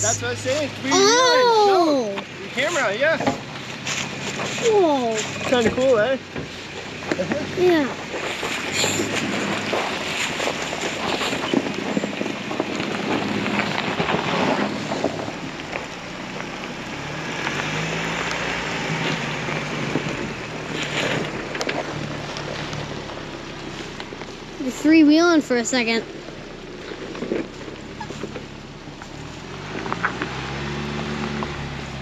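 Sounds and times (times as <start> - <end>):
engine low hum: 0.0 - 32.0
tyres crackling over rocks: 0.0 - 32.0.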